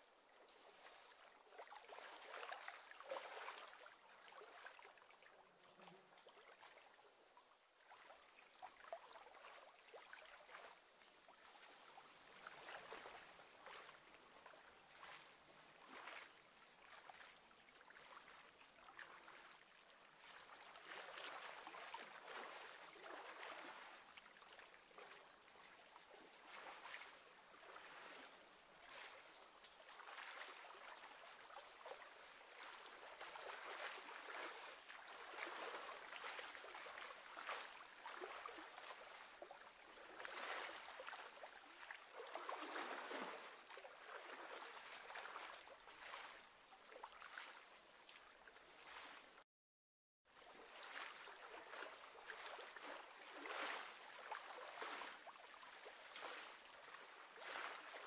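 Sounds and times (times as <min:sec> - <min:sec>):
lake water lapping: 0:00.6 - 0:06.9, 0:07.8 - 0:49.4, 0:50.4 - 0:58.0.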